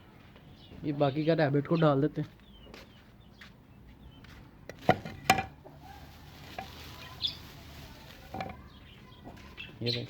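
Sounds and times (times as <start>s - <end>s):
bird chirp: 0.0s - 4.5s, 5.9s - 10.0s.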